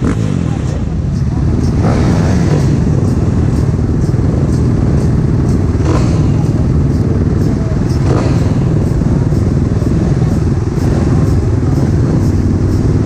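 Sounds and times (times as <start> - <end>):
motorcycle engines idling: 0.0 - 13.0.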